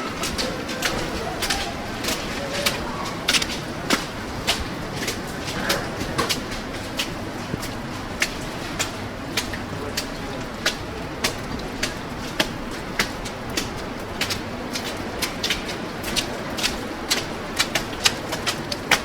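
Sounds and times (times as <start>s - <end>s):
city traffic hum: 0.0s - 19.0s
footsteps on snow: 0.0s - 19.0s.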